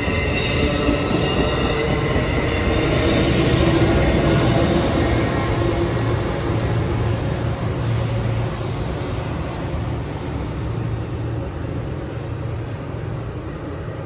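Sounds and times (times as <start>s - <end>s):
diesel locomotive engine drone: 0.0s - 14.0s
train cars rumbling on rails: 0.0s - 14.0s.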